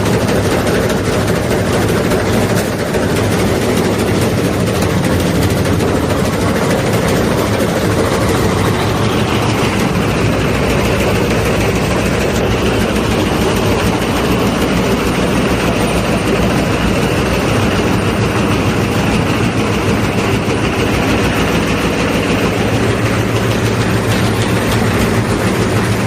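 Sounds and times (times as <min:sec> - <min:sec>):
machine running with low hum: 0:00.0 - 0:26.0.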